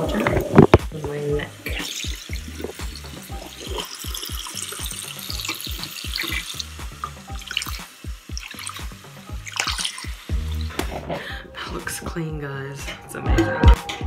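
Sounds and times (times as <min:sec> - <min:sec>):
water running in sink: 0:00.0 - 0:12.6
background music with low beat: 0:00.0 - 0:14.0.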